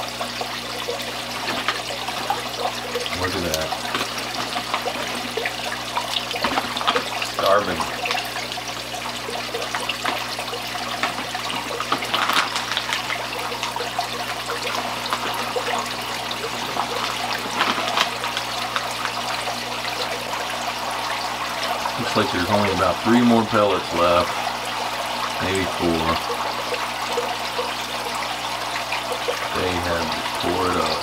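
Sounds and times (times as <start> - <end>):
fish splashing at surface: 0.0 - 31.0
water splashing and trickling: 0.0 - 31.0.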